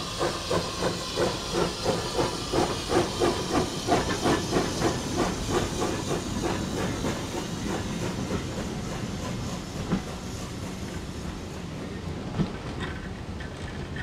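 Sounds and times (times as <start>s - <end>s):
steam hissing: 0.0s - 13.3s
steam locomotive exhaust chuffs: 0.0s - 14.0s.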